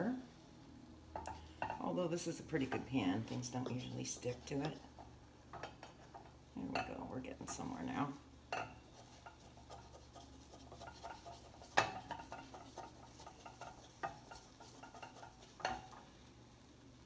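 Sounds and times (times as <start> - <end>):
wooden spatula scraping frying pan: 1.2 - 16.1.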